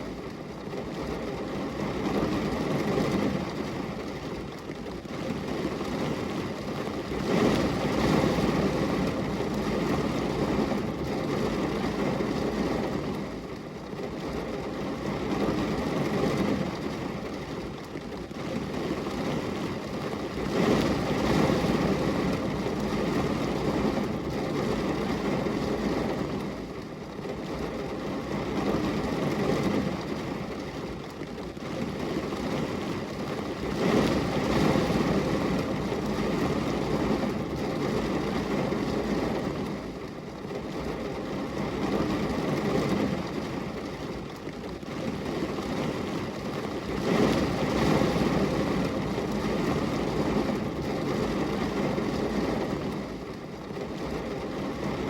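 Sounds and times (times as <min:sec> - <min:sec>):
rain on a glass window: 0:00.0 - 0:55.0.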